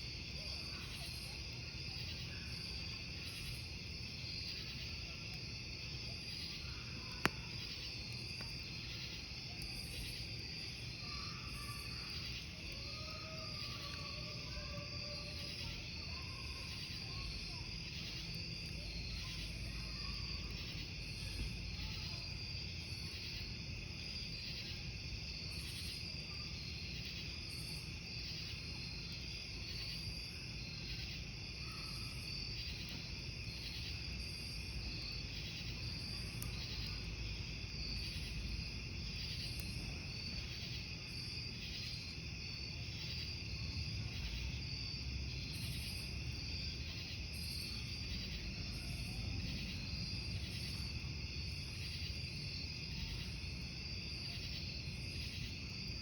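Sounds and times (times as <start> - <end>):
campfire rumbling and crackling: 0.0 - 56.0
crickets chirping: 0.0 - 56.0.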